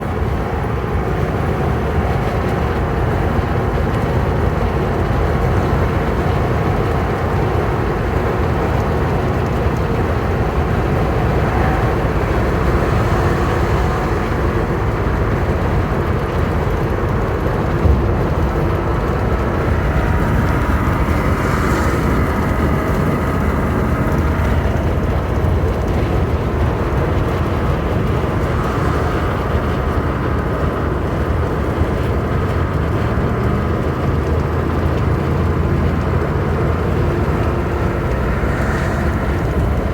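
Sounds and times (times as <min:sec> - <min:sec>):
highway traffic rumble: 0:00.0 - 0:39.9.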